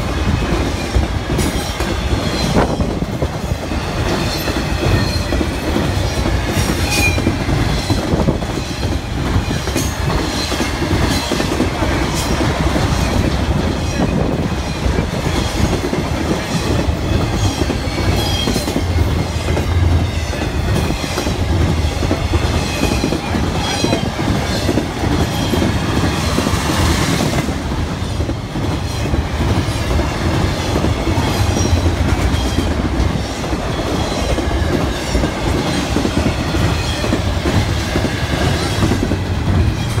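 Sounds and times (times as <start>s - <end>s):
freight train rumbling: 0.0s - 40.0s.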